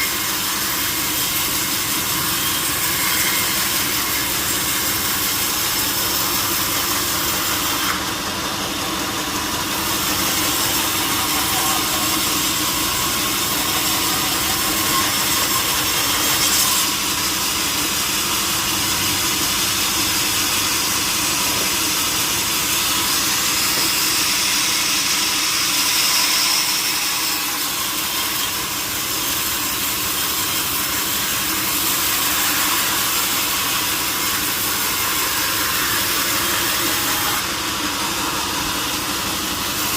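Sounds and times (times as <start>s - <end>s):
power saw cutting tree trunk: 0.0s - 39.9s.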